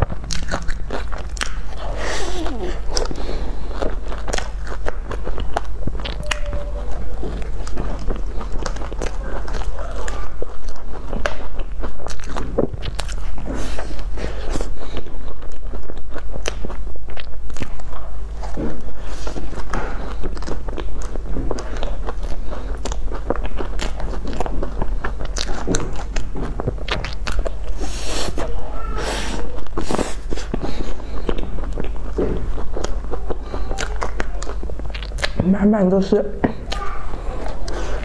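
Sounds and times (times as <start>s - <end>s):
wet mouth sounds: 0.0s - 35.6s
chewing crisp bread: 0.0s - 35.7s, 36.4s - 38.0s.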